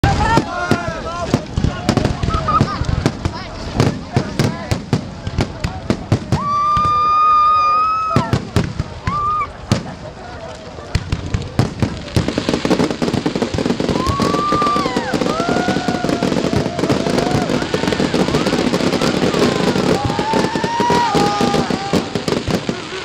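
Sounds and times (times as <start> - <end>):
firecrackers crackling: 0.0 - 23.0
high-pitched whistling fireworks: 0.0 - 23.0.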